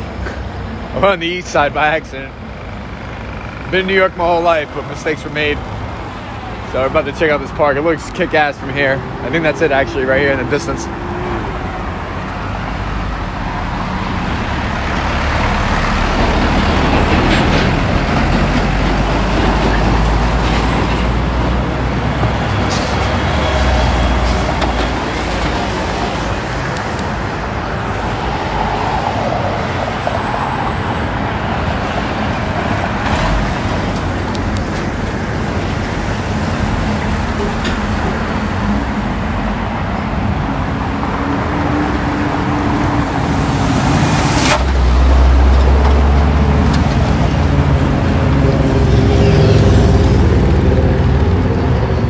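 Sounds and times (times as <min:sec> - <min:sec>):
road noise: 0:00.0 - 0:52.0
heavy vehicle rumbling past: 0:08.3 - 0:52.0.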